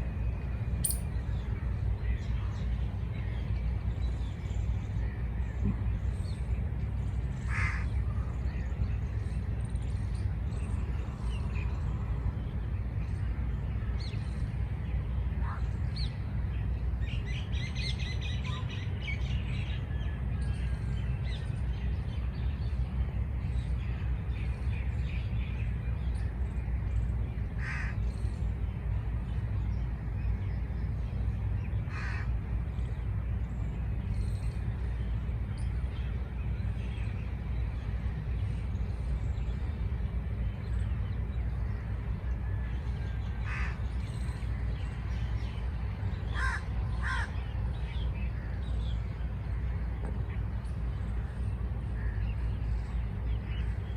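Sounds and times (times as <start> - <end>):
steady low rumble: 0.0 - 53.9.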